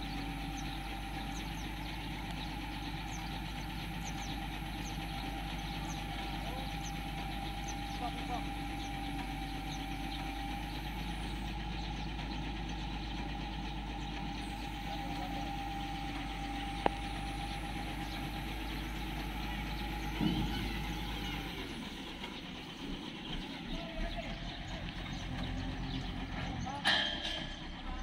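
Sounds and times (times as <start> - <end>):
diesel engine running with whine: 0.0 - 28.0.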